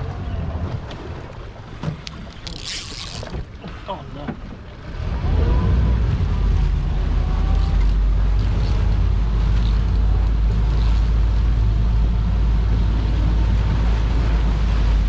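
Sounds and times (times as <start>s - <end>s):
water and waves washing: 0.0s - 15.0s.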